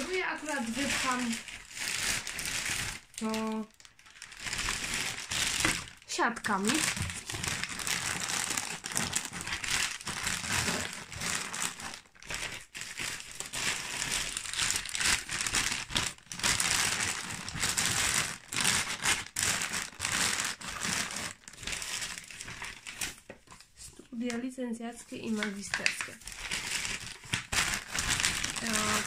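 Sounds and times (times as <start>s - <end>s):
plastic bags crinkling: 0.0s - 29.0s.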